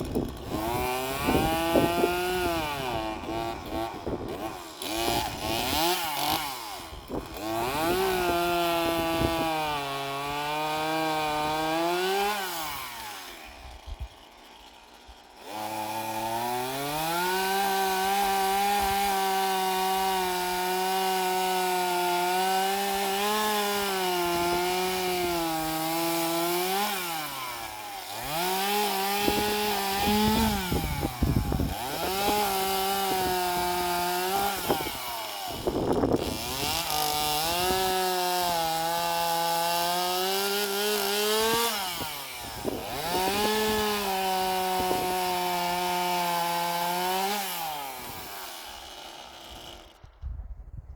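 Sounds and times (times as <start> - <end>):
chainsaw cutting wood: 0.0 - 50.3.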